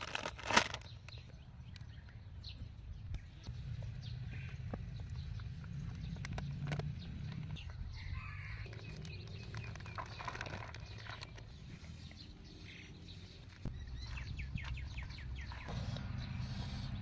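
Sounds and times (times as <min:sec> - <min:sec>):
birds chirping: 0:00.8 - 0:17.0.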